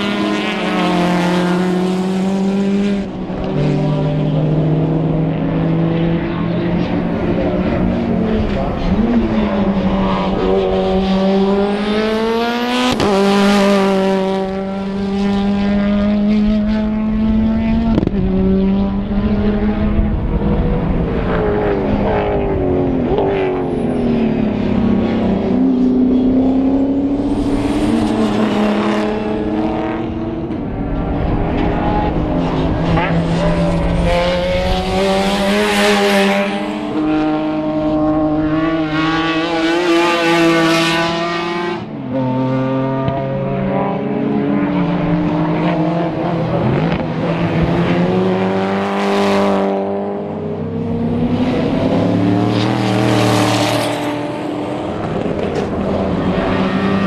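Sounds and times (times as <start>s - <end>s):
racing car engines at full throttle: 0.0s - 57.0s
racing cars passing by: 0.0s - 57.0s.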